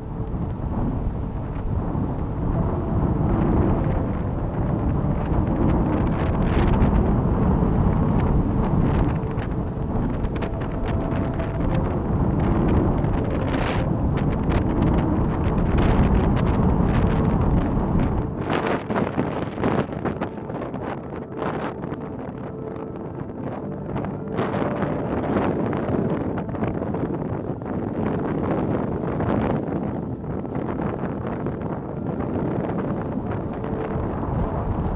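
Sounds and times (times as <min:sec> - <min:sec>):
gusting wind on microphone: 0:00.0 - 0:34.9.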